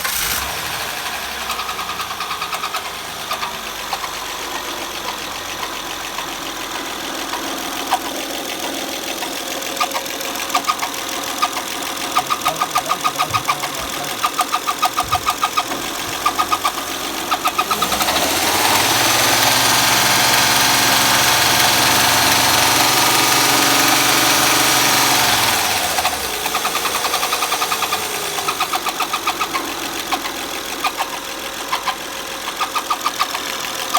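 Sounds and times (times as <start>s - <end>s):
car engine idling and revving: 0.0s - 33.9s
rapid rhythmic engine chirping: 1.4s - 33.9s.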